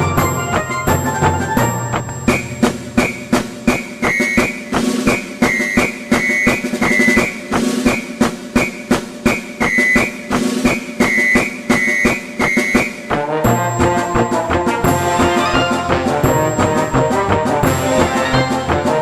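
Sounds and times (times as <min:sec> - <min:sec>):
music with percussive beat: 0:00.0 - 0:19.0.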